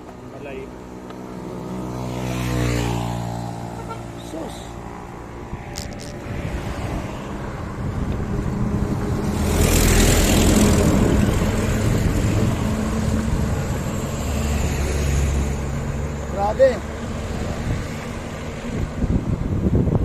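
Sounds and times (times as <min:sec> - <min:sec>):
vehicle passing on road: 0:00.0 - 0:20.0.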